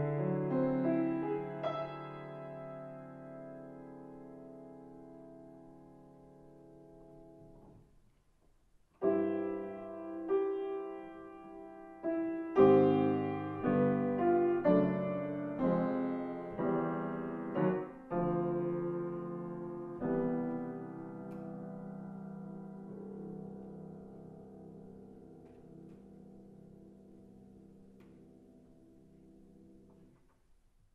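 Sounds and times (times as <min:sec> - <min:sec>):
piano chords: 0:00.0 - 0:07.9, 0:09.0 - 0:30.2.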